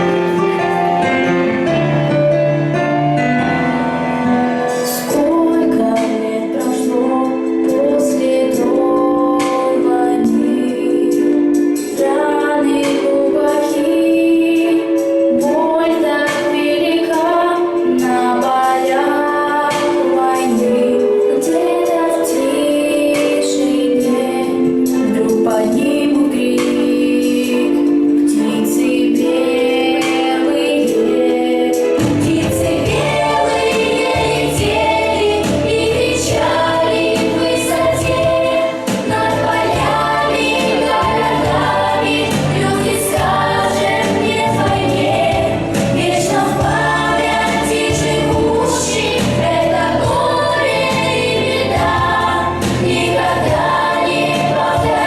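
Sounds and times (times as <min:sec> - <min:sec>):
choir-like group singing: 0:00.0 - 0:55.0
instrumental backing: 0:00.0 - 0:55.0.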